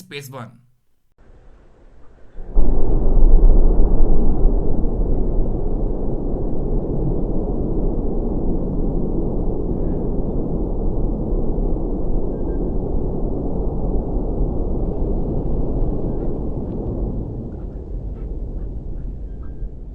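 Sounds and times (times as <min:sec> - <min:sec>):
distant rocket engines rumbling: 0:01.2 - 0:19.9.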